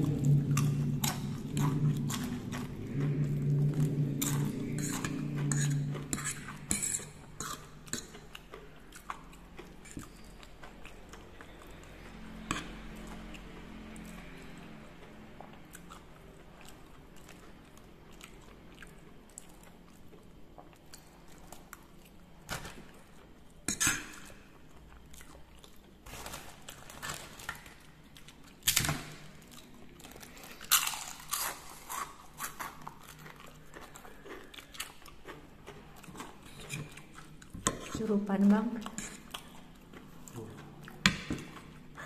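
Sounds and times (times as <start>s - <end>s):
chewing noodles: 0.0s - 42.0s.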